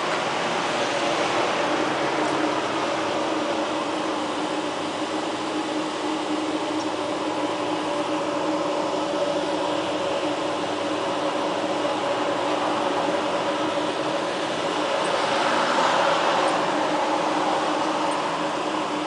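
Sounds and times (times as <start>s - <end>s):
cooling fan air rush: 0.0s - 19.0s.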